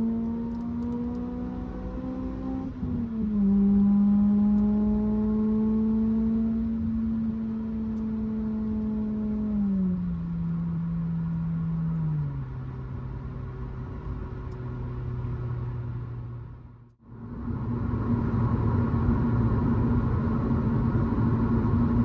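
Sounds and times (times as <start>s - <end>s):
car engine droning through exhaust: 0.0s - 22.0s.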